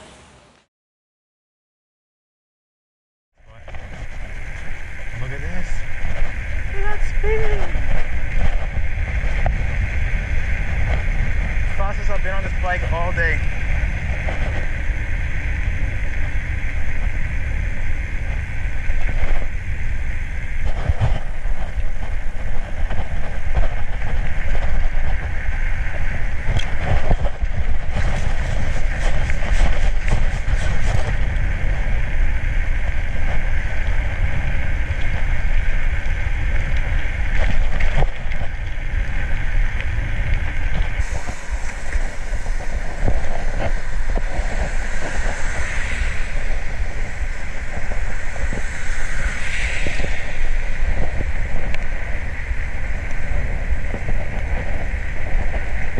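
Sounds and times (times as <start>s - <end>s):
bicycle tyre road noise: 3.4s - 55.9s
wind buffeting microphone: 3.5s - 55.9s.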